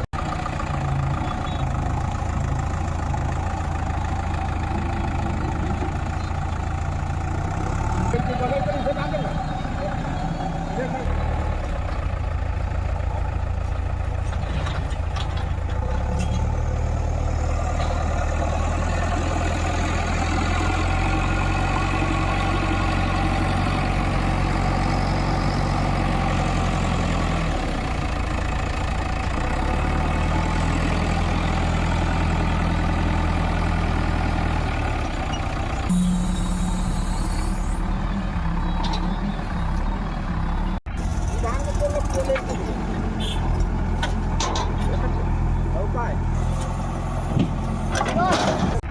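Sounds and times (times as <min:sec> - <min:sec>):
diesel engine revving under load: 0:00.0 - 0:48.9.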